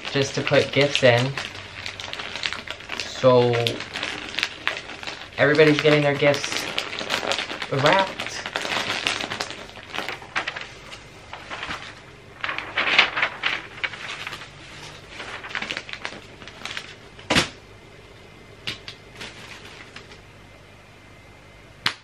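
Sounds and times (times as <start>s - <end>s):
wrapping paper rustling: 0.0s - 17.6s, 18.7s - 20.3s.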